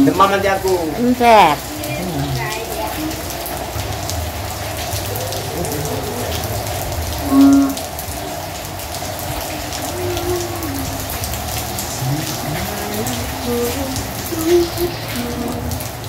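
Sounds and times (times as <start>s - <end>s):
rain falling on a road: 0.0s - 16.0s.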